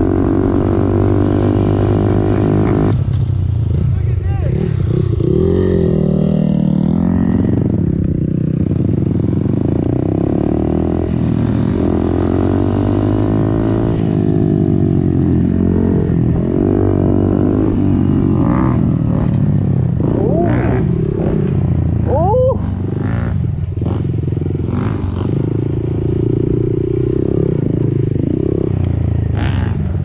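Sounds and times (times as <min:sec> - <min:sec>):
dirt bike engine revving: 0:03.7 - 0:30.0.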